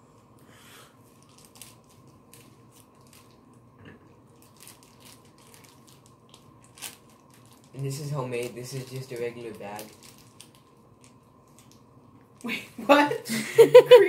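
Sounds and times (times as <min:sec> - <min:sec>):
plastic bag crinkling: 0:01.1 - 0:12.4.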